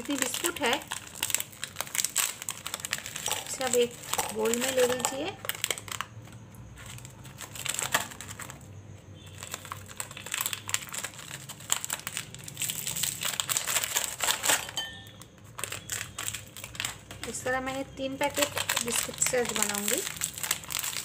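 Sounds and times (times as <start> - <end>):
plastic wrappers crinkling: 0.0 - 21.0.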